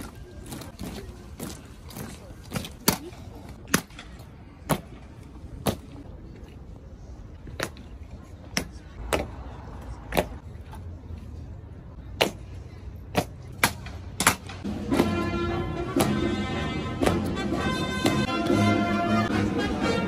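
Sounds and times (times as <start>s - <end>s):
crowd hum: 0.0s - 20.0s.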